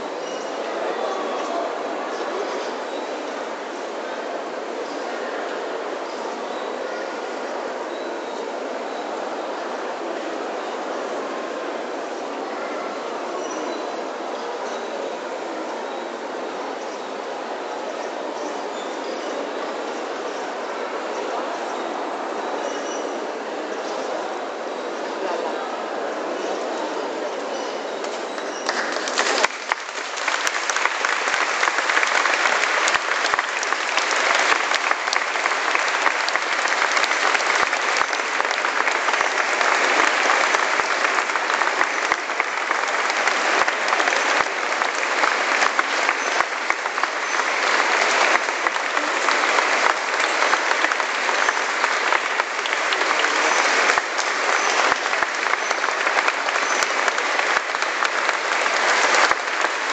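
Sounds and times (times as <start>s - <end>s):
large crowd applauding: 0.0s - 16.8s, 28.2s - 59.9s.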